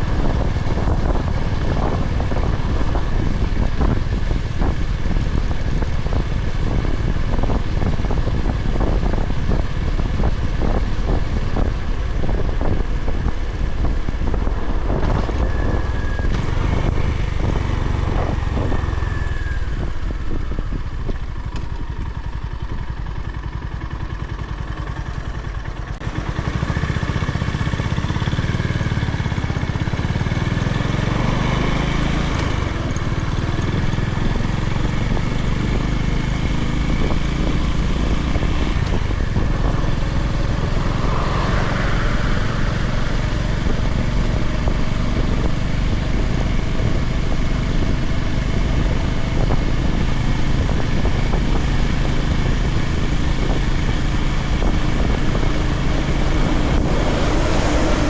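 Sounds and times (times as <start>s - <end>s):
wind buffeting microphone: 0.0s - 23.0s, 27.7s - 58.0s
motorcycle engine running: 0.0s - 58.0s.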